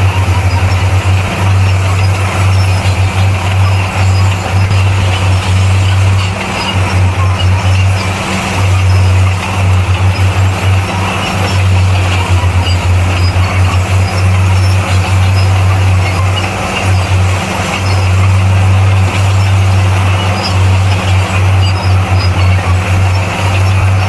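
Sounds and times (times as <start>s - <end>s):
bulldozer diesel engine under load: 0.0s - 24.0s.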